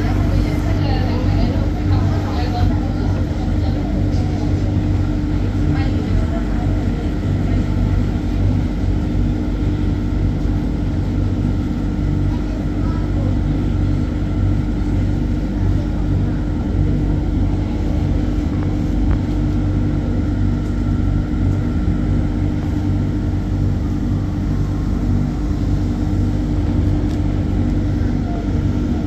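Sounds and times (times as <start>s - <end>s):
monorail train rumble: 0.0s - 29.0s.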